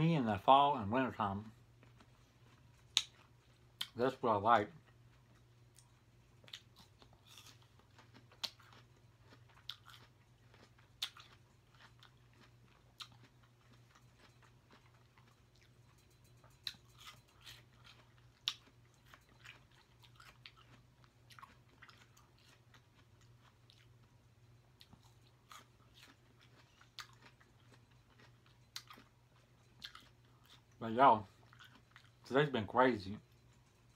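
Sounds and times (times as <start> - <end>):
steady low hum: 0.0 - 33.9
person chewing fruit: 1.0 - 33.9.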